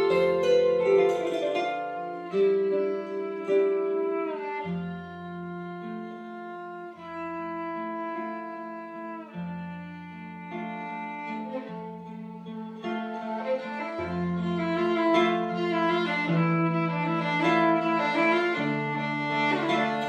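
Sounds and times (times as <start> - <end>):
kora accompaniment: 0.0 - 7.1, 9.3 - 20.0
viola slow bowed melody: 0.0 - 20.0.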